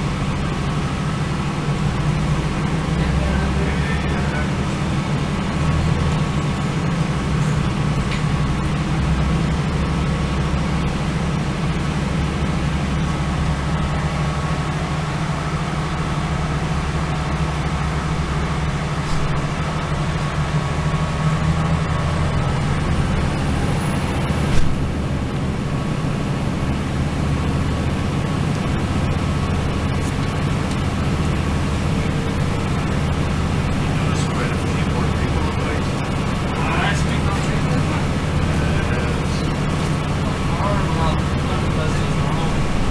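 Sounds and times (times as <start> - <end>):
train rumbling: 0.0 - 42.9.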